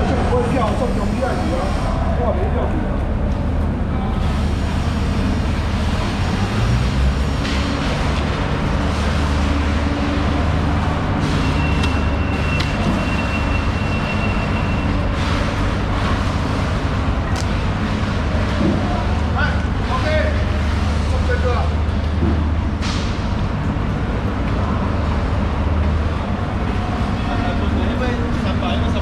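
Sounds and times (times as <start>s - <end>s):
noisy wash: 0.0s - 29.0s.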